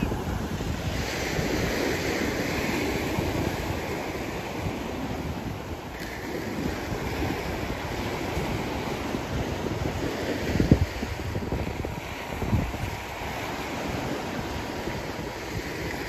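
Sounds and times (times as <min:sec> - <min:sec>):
sea surf washing onto beach: 0:00.0 - 0:16.0
wind buffeting microphone: 0:00.0 - 0:16.0.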